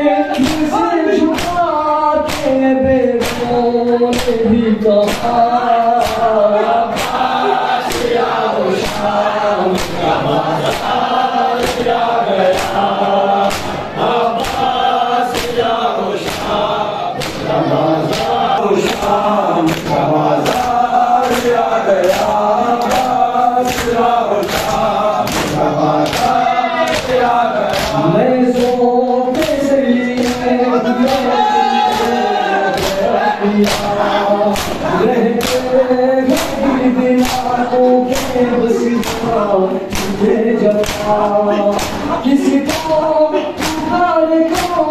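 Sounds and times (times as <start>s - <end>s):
men singing in chorus: 0.0s - 44.9s
hands slapping chests: 0.3s - 35.7s, 36.3s - 44.9s.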